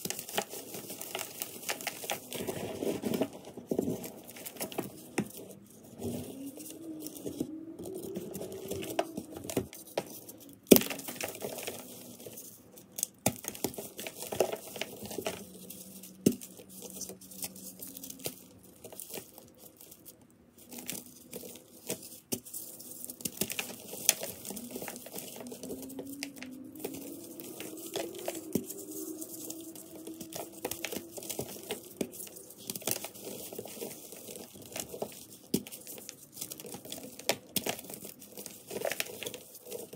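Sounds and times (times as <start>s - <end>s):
chalk crunching and crumbling: 0.0s - 39.9s
chalk pieces cracking: 0.0s - 39.9s.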